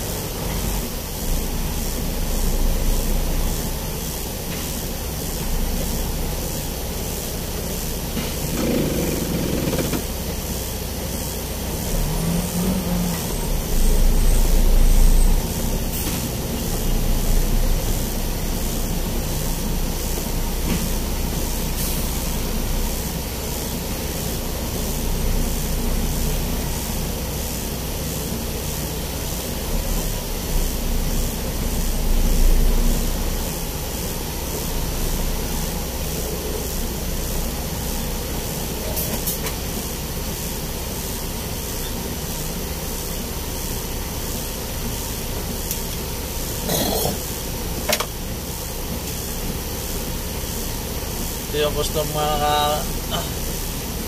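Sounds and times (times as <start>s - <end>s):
steady hiss: 0.0s - 54.0s
truck engine running: 0.0s - 54.0s.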